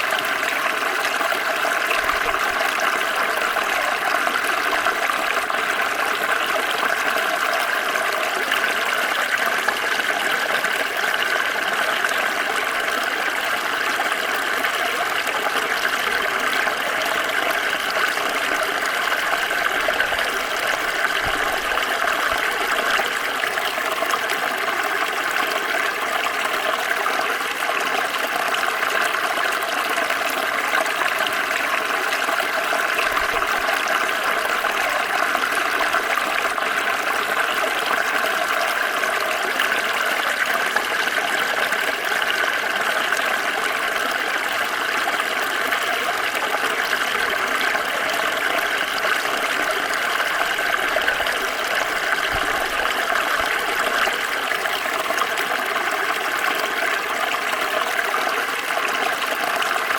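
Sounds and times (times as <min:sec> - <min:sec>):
stream flowing over stones: 0:00.0 - 0:59.9.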